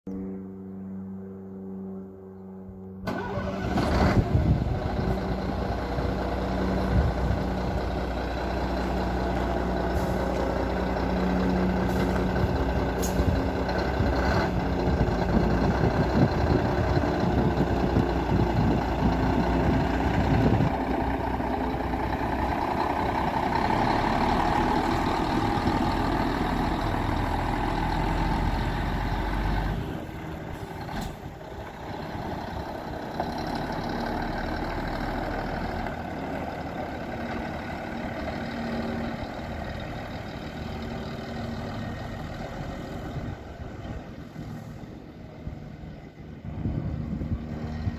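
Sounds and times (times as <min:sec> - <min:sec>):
truck diesel engine driving: 0:03.0 - 0:47.9
truck engine idling: 0:03.1 - 0:47.9.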